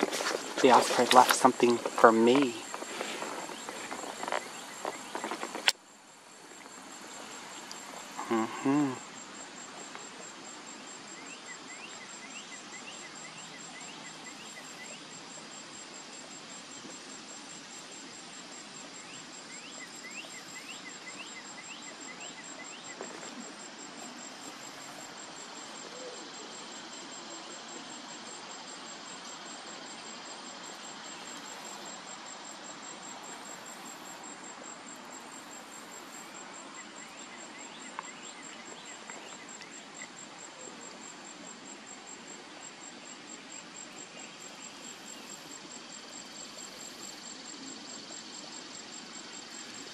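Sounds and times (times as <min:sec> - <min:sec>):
high-pitched insect trill: 0:00.0 - 0:40.7
outdoor hiss: 0:00.0 - 0:49.9.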